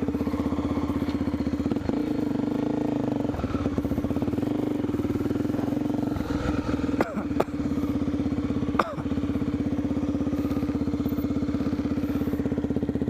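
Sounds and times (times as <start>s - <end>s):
dirt bike engine under throttle: 0.0s - 13.0s.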